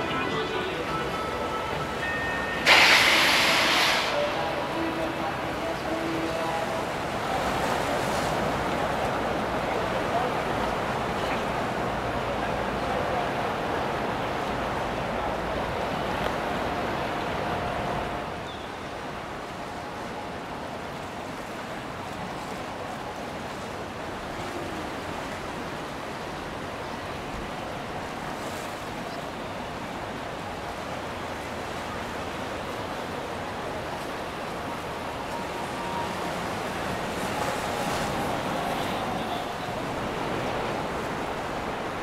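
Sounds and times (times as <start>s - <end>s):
rushing water: 0.0s - 42.0s
wind: 0.0s - 42.0s.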